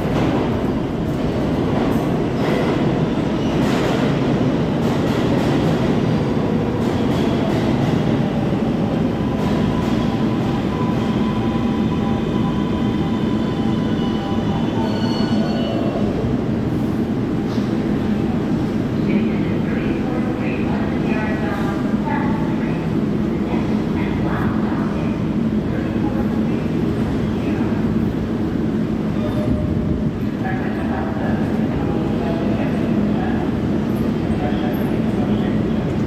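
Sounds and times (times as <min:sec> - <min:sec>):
subway train rumble: 0:00.0 - 0:36.0.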